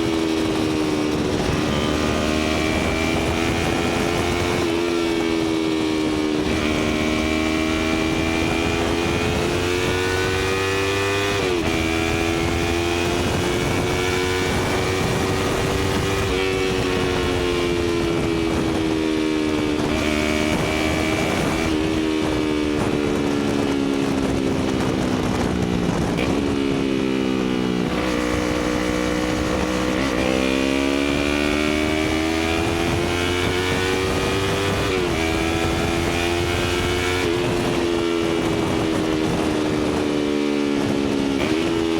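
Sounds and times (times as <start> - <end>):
motorcycle engine revving: 0.0 - 41.9
wind noise: 0.0 - 41.9.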